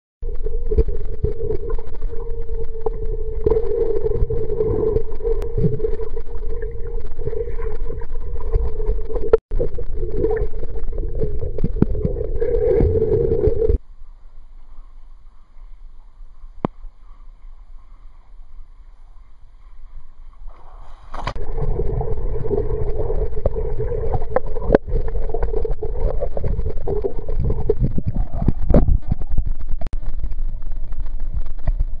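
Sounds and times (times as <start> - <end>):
muffled underwater water movement: 0.2 - 32.0.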